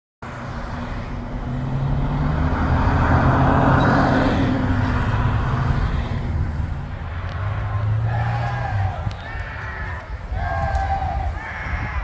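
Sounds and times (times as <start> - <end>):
motor vehicle passing: 0.4 - 11.2.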